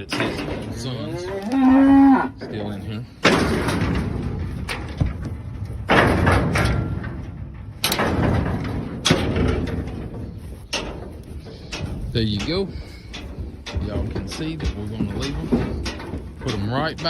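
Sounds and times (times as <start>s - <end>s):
metal gates banging: 0.0s - 17.0s
small metal knocks: 2.4s - 17.0s.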